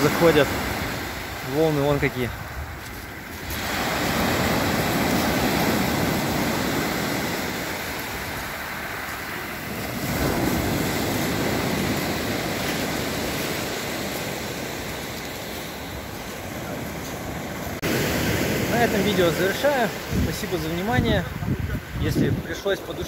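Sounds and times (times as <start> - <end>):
surf breaking on pebble beach: 0.0 - 20.8.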